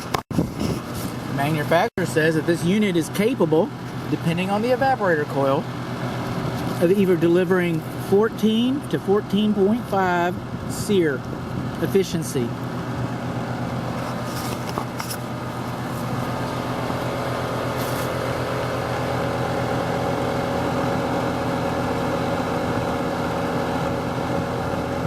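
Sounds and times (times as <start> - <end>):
air conditioner unit humming: 0.0 - 25.0.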